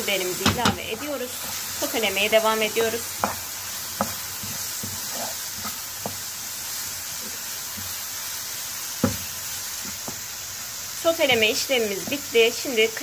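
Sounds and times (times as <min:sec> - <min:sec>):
vegetables sizzling in a frying pan: 0:00.0 - 0:13.0.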